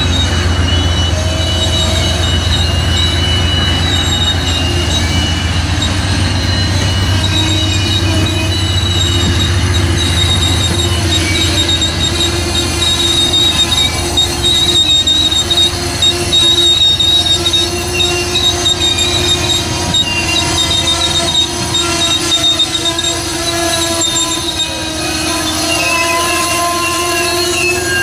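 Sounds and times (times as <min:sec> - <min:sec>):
low rumble of train cars: 0:00.0 - 0:28.0
train wheels squealing on rails: 0:00.0 - 0:28.0.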